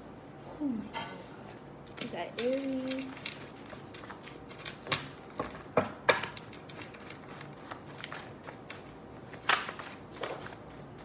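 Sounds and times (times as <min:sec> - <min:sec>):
deck of cards rustling: 0:02.0 - 0:11.0.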